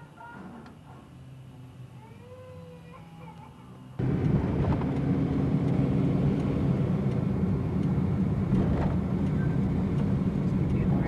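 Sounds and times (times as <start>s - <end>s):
vehicle engine rumble inside: 1.4s - 11.0s.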